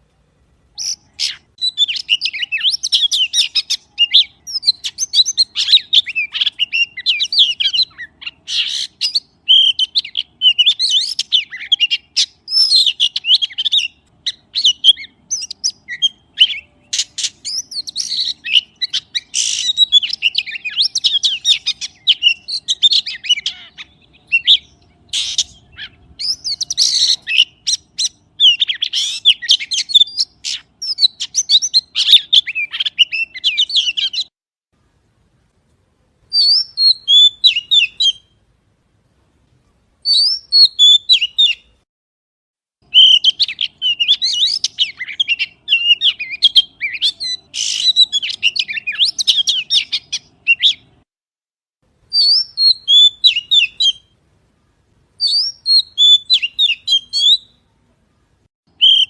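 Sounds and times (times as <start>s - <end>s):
magpie chirping and chattering: 0.8s - 34.3s, 36.4s - 38.2s, 40.1s - 41.7s, 42.9s - 50.9s, 52.2s - 54.0s, 55.2s - 57.6s.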